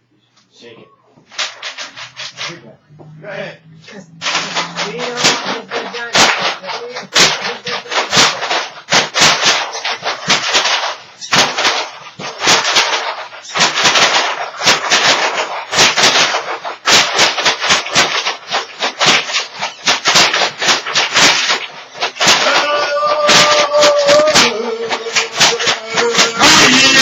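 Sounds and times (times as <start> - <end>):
shaker rattling: 1.3 - 2.7, 4.1 - 27.0.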